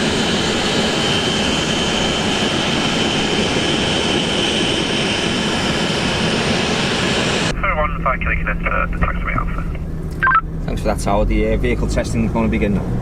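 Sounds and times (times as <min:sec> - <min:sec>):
jet engine running with whine: 0:00.0 - 0:11.1.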